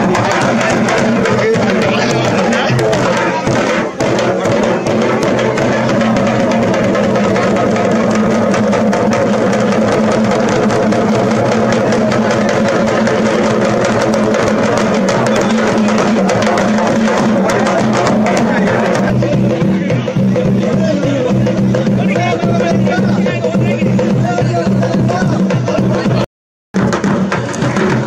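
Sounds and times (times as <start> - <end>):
fast drumming: 0.0 - 28.0.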